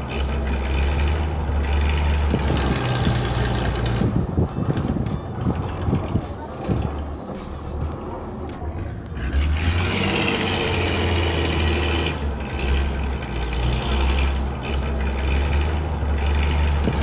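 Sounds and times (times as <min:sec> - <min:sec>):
higher whirring: 0:00.0 - 0:17.0
motor humming: 0:00.0 - 0:17.0.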